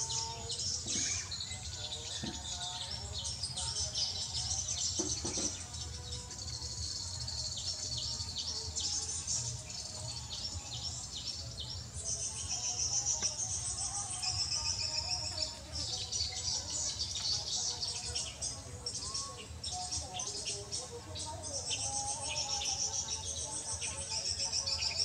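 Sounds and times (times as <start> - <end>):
birds chirping rapidly: 0.0 - 25.0.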